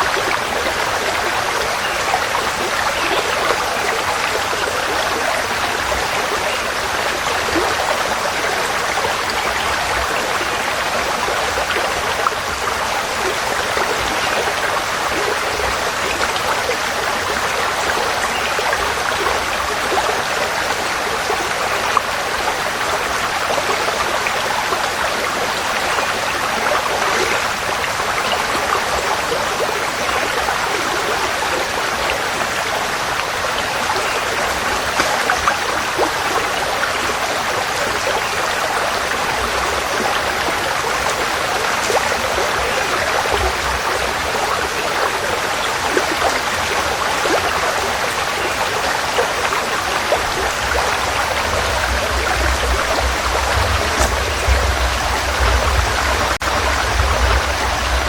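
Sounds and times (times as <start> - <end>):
stream rushing water: 0.0 - 58.0.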